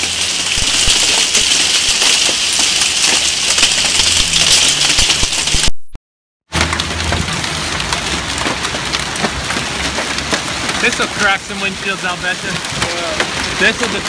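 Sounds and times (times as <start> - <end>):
heavy hail pelting down: 0.0 - 5.8, 6.6 - 14.0.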